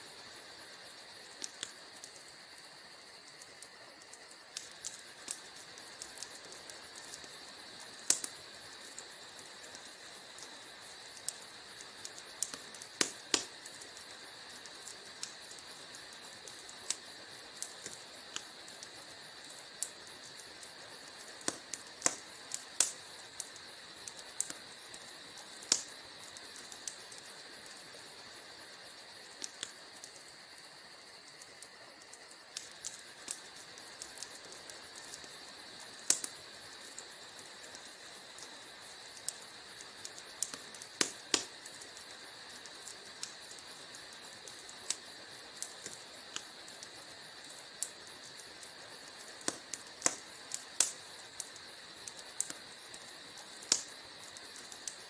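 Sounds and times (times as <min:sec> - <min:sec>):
fire hissing in a fireplace: 0:00.0 - 0:55.0
fire popping and snapping: 0:00.0 - 0:55.0.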